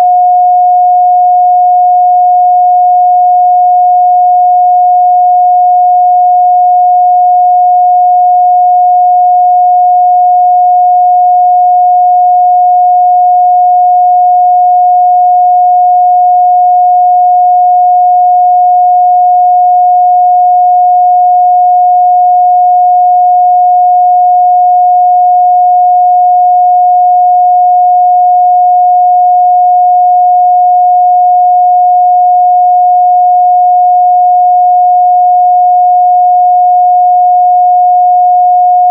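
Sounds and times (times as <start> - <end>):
pure sine-wave test tone: 0.0 - 38.9.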